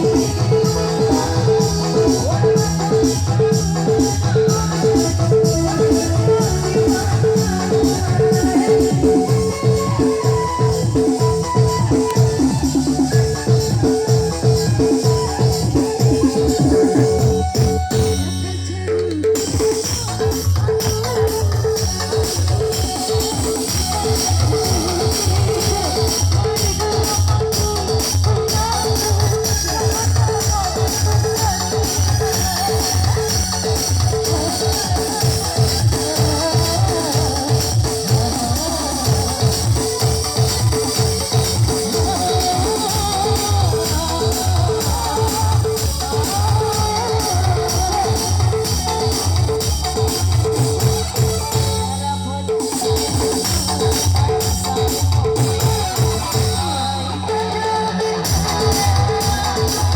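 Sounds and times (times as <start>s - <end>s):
bass: 0.0s - 59.9s
drums: 0.0s - 59.9s.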